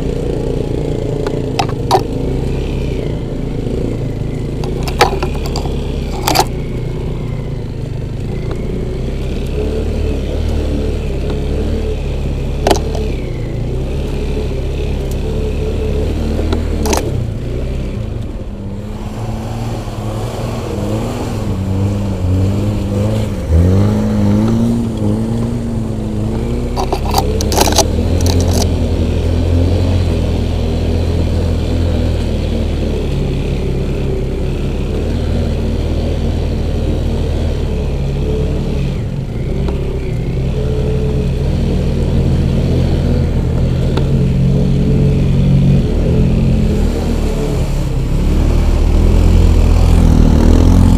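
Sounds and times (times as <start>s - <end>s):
vehicle engine revving: 0.0s - 50.9s.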